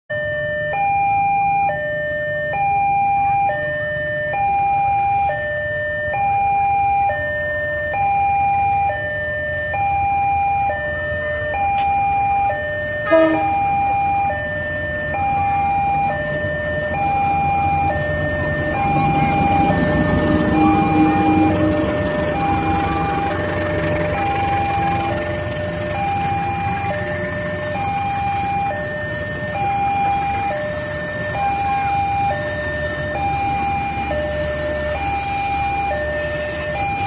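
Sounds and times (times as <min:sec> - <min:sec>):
two-tone electronic alarm: 0:00.1 - 0:37.0.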